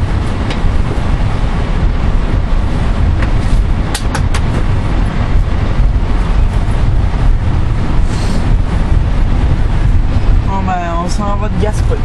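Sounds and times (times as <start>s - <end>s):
rail coach rumbling on track: 0.0s - 12.0s.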